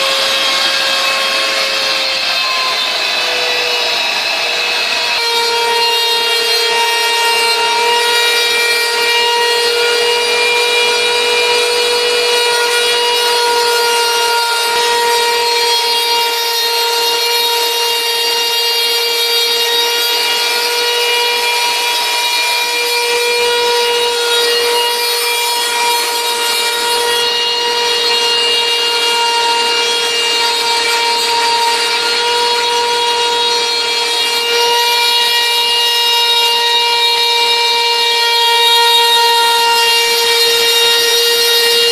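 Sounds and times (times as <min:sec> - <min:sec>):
wood router high whine: 0:00.0 - 0:41.9.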